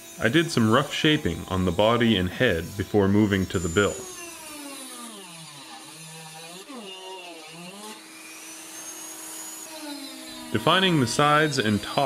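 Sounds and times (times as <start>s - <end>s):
rotary tool whining cutting wood: 0.0s - 12.0s.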